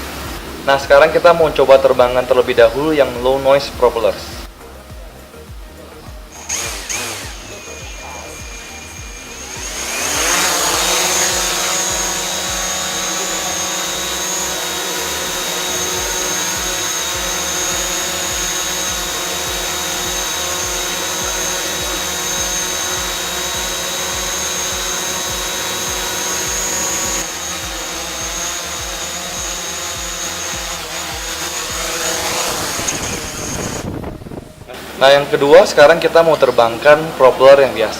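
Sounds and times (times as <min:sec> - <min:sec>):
drone motors whining: 0:00.0 - 0:35.6.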